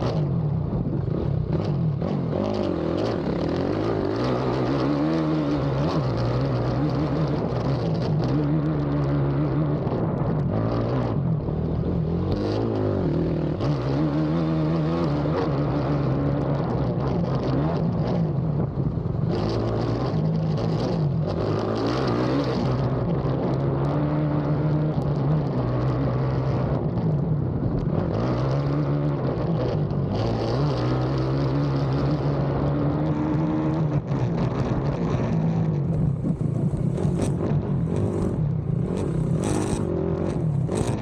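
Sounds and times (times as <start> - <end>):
racing atv engine: 0.0 - 41.0.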